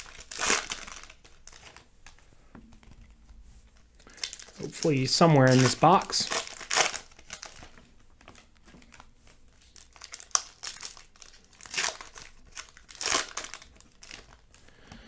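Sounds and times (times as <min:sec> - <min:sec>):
foil wrapper crinkling: 0:00.0 - 0:02.2, 0:03.8 - 0:14.8.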